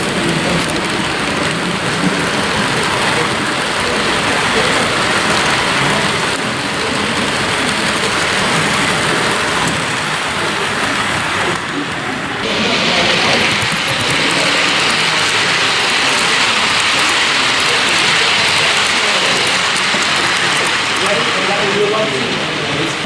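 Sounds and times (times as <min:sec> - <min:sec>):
model trains running: 0:00.0 - 0:23.0
voices: 0:00.0 - 0:23.0.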